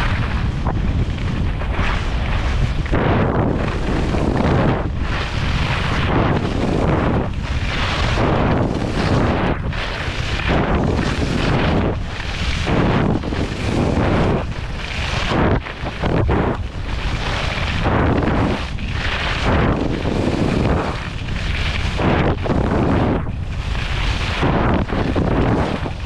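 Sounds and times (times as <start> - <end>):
skis scraping on snow: 0.0 - 26.0
wind rushing across microphone: 0.0 - 26.0.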